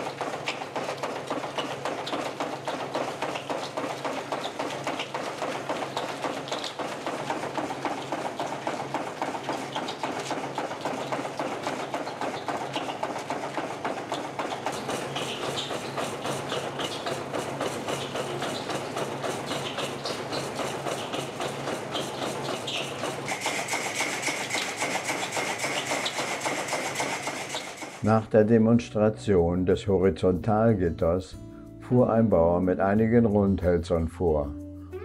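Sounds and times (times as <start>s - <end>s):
frame saw clattering through log: 0.0s - 28.1s.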